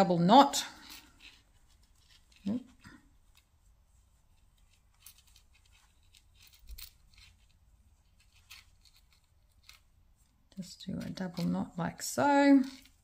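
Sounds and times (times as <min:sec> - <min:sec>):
string rustling and ticking: 0:00.0 - 0:13.0.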